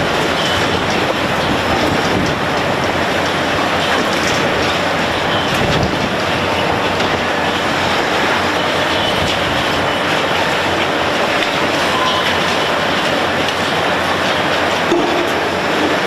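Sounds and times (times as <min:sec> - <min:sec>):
heavy machinery working: 0:00.0 - 0:16.0.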